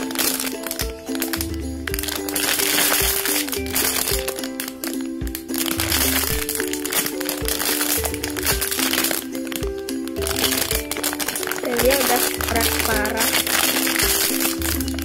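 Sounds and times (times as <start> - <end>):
background music with low beat: 0.0 - 15.0
plastic bag crinkling: 0.0 - 15.0.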